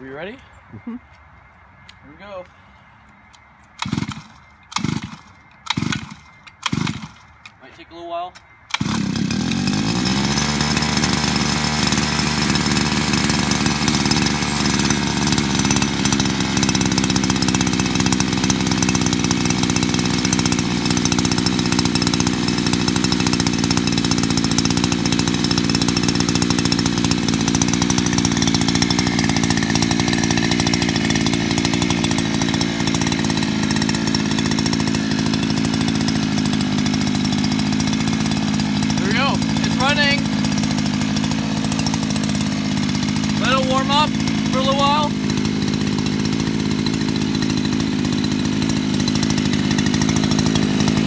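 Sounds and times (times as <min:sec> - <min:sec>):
scooter engine at fast idle: 0:03.8 - 0:07.5, 0:08.7 - 0:51.0.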